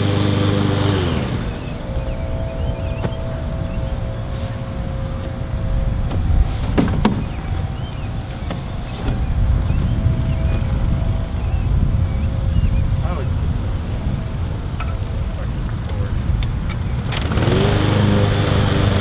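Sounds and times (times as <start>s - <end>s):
faint steady whine: 0.0s - 16.9s
mower engine idling: 0.0s - 19.0s.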